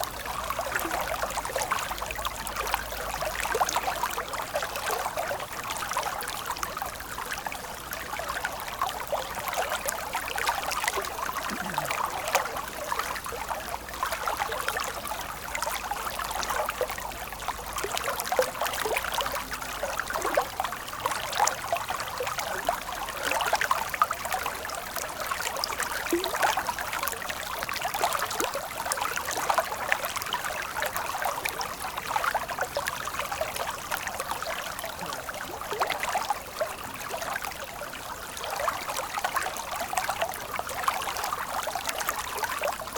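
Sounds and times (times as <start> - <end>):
stream water running: 0.0 - 42.9.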